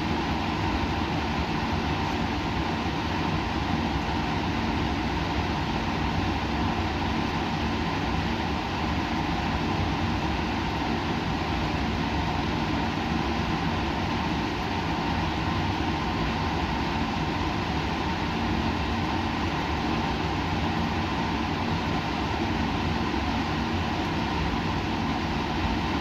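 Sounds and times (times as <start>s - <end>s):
machinery hum and hiss: 0.0s - 26.0s.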